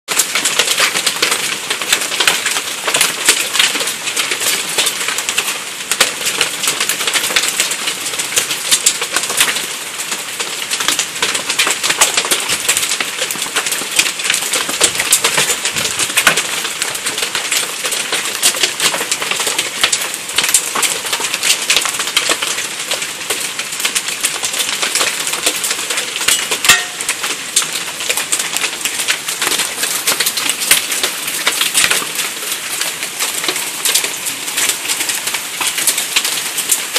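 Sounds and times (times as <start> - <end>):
hail on wooden deck: 0.1 - 36.9.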